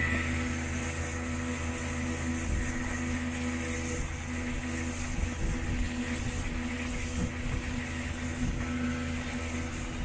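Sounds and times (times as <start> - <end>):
churning wake rushing: 0.0 - 10.0
motorboat engine running: 0.0 - 10.0
wind on microphone: 0.0 - 10.0.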